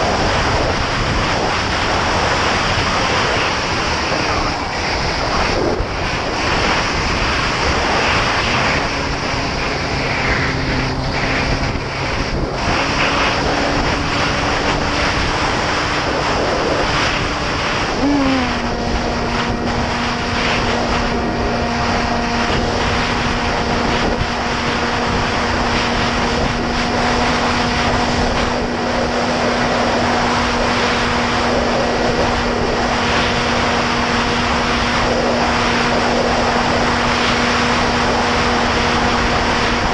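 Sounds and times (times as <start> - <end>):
electric motor and propeller hum: 0.0 - 39.9
wind rushing over microphone: 0.0 - 39.9.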